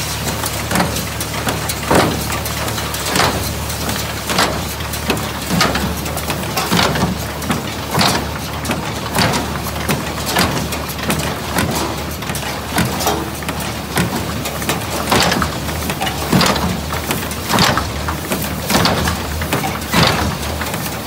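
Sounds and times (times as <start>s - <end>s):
baler drive hum: 0.0s - 21.0s
sharp clank of baler parts: 0.1s - 21.0s.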